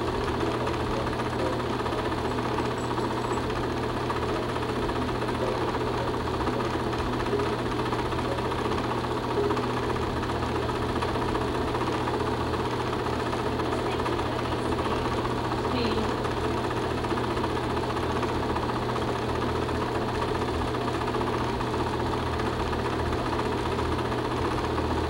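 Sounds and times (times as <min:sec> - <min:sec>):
film projector clatter: 0:00.0 - 0:25.0.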